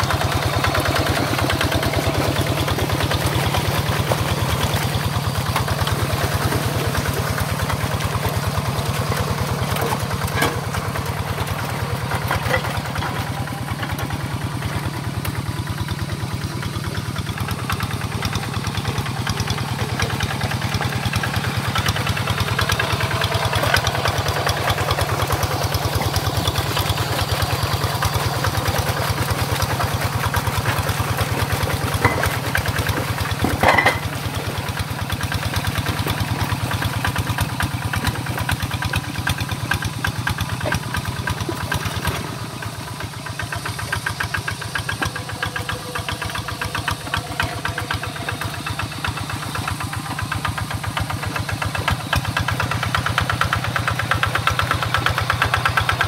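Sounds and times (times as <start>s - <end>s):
diesel tractor engine chugging: 0.0s - 56.0s.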